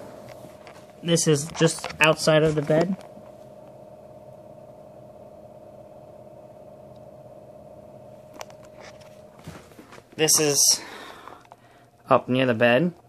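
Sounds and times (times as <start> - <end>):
fan air whoosh: 0.0 - 12.0
faint steady hum: 0.0 - 13.0.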